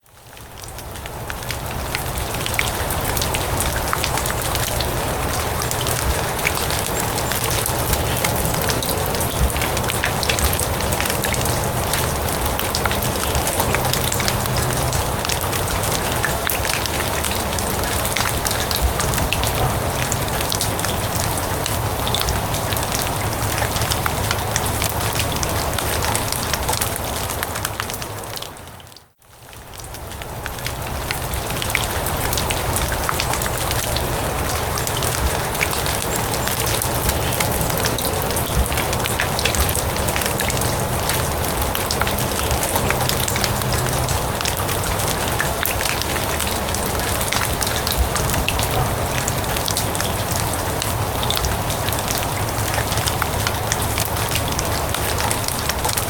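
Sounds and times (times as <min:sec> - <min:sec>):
rain falling on grass: 0:00.0 - 0:56.0.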